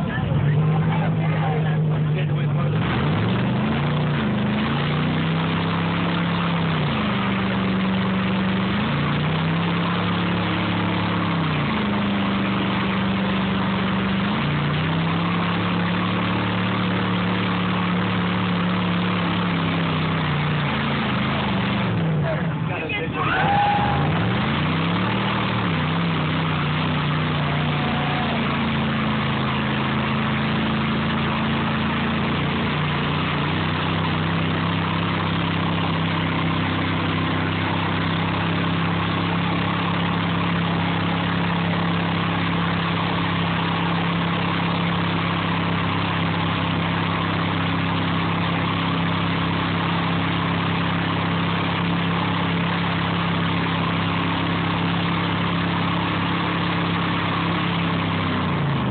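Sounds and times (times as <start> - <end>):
truck engine running and revving: 0.0 - 58.9.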